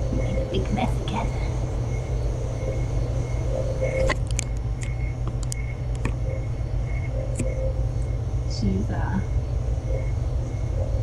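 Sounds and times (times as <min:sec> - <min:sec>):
white noise machine rumble: 0:00.0 - 0:11.0.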